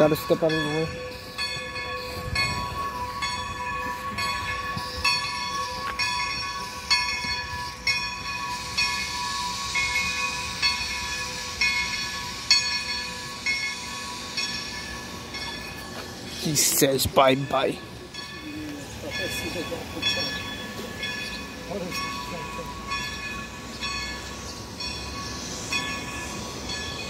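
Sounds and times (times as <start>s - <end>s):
distant steam locomotive chuffing: 0.0s - 27.0s
steady whine and hiss: 3.4s - 27.0s.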